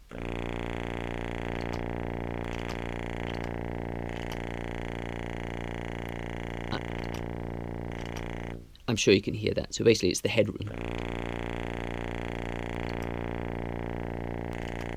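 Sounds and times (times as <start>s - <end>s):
faint clicks: 0.0s - 9.0s, 10.4s - 14.9s.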